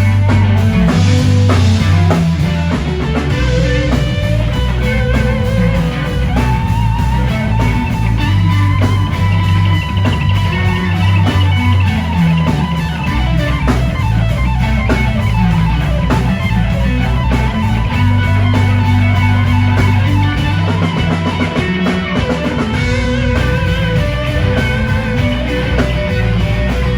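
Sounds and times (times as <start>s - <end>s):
electric guitar lead notes: 0.0s - 26.9s
rock band playing: 0.0s - 26.9s.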